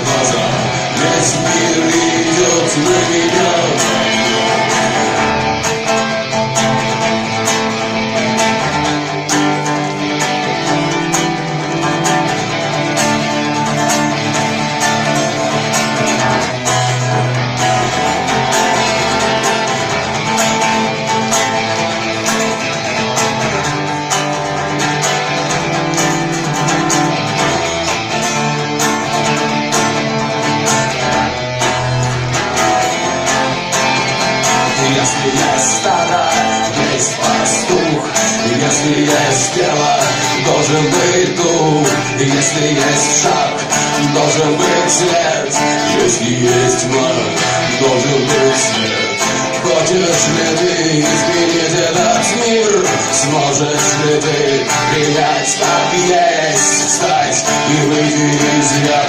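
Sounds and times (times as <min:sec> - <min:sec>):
guitars strumming chords: 0:00.0 - 0:59.0.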